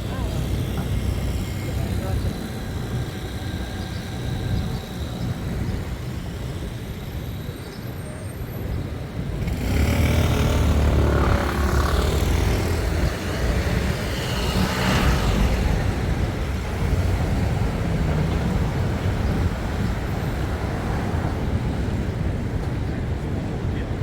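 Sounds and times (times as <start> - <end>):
heavy vehicle engine rumble: 0.0 - 24.0
steady traffic drone: 0.0 - 24.0.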